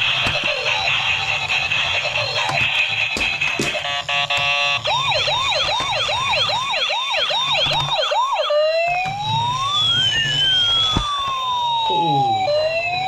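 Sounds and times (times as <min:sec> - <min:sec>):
toy police car siren: 0:00.0 - 0:13.0.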